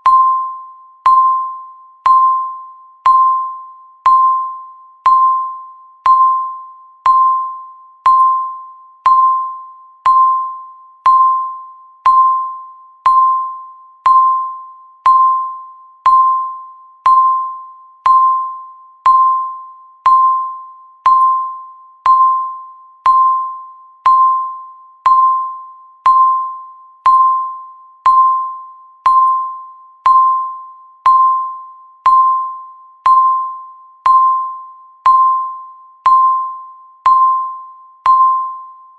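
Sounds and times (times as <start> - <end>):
electronic timer ticking: 0.0 - 38.7.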